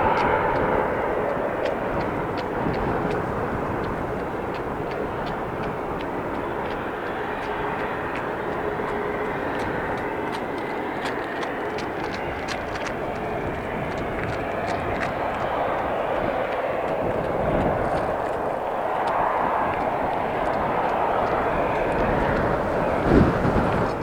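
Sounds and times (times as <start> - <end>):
aircraft engines rumbling: 0.0 - 24.0.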